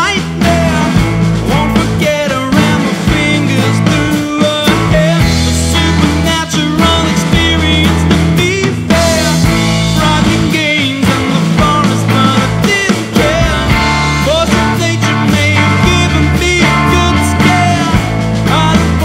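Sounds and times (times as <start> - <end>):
electric guitar lead bending notes: 0.0 - 19.0
rock band playing: 0.0 - 19.0.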